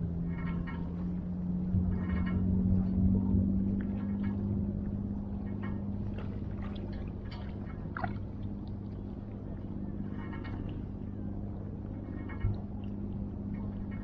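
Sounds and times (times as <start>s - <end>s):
motor humming low: 0.0s - 14.0s
water splashes and ticks: 0.0s - 14.0s.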